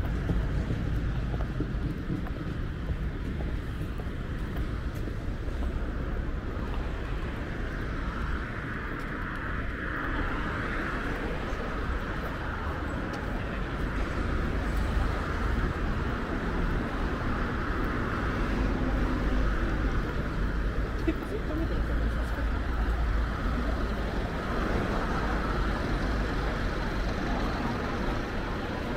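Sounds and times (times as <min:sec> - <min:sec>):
street traffic rumble: 0:00.0 - 0:28.9.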